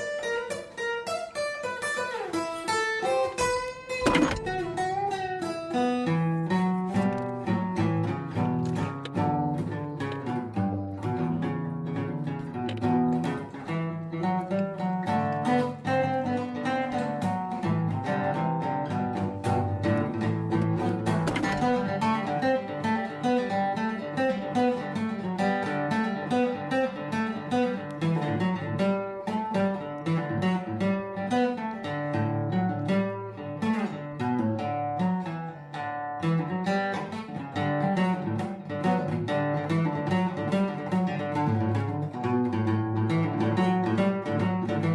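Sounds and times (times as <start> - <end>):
acoustic guitar playing: 0.0 - 44.9.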